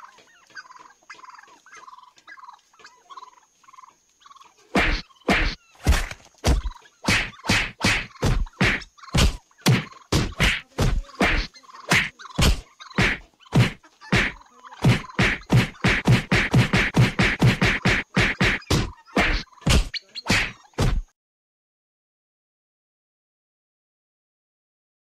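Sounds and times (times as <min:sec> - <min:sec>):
turkeys fighting slaps and thuds: 0:00.0 - 0:21.1.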